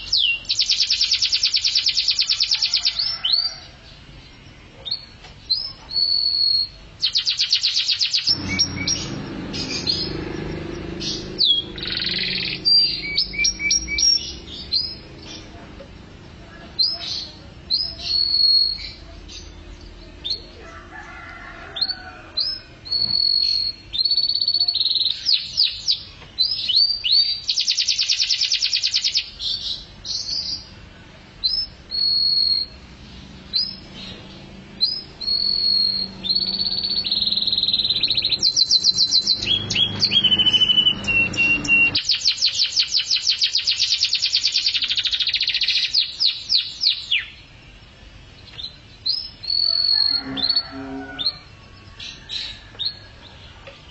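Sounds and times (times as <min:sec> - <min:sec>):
canary singing: 0:00.0 - 0:30.8, 0:31.4 - 0:53.9.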